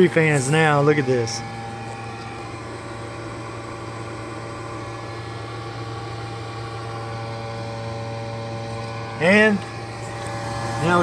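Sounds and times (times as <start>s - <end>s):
electric fans humming: 0.0s - 11.0s.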